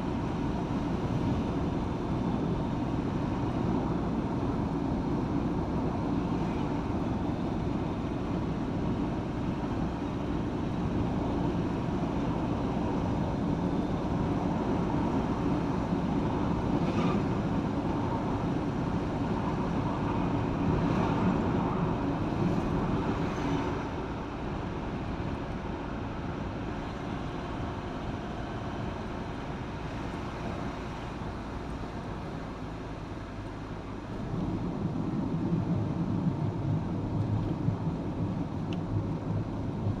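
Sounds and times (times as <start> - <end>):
tyre noise on road: 0.0 - 40.0
vehicle engine: 0.0 - 40.0.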